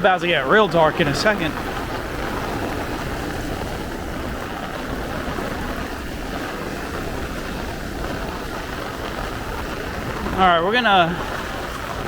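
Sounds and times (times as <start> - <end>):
heavy rain pouring: 0.0 - 12.0
low rumble: 0.0 - 12.0.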